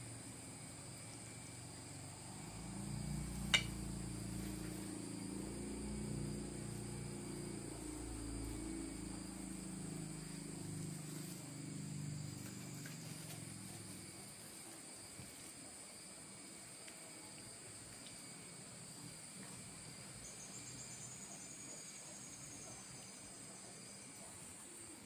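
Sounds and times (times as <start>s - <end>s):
low buzzing hum: 0.0s - 24.3s
high-pitched cricket-like whine: 0.0s - 25.0s.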